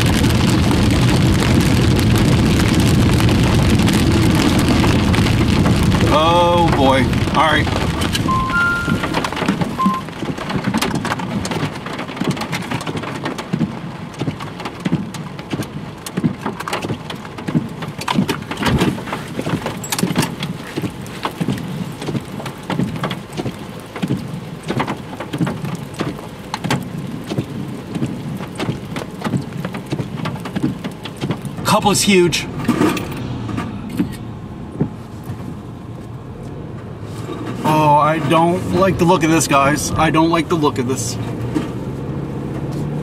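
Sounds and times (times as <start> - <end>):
heavy rain falling: 0.0 - 43.0
raindrops hitting close by: 0.0 - 43.0.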